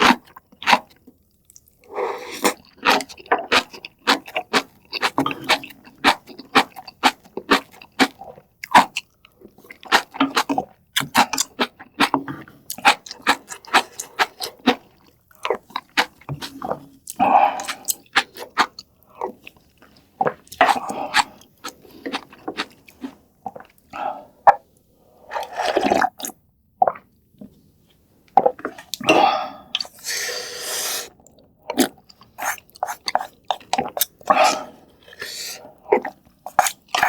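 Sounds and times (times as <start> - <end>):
person chewing: 0.0 - 27.0, 28.3 - 37.0.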